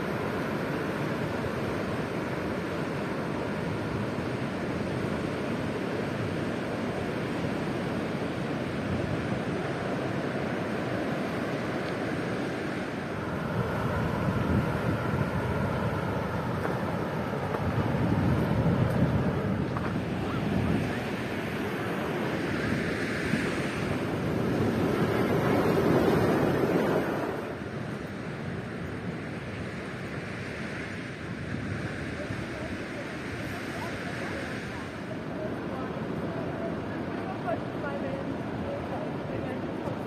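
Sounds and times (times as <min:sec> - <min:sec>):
ocean surf breaking: 0:00.0 - 0:40.0
wind on microphone: 0:00.0 - 0:40.0.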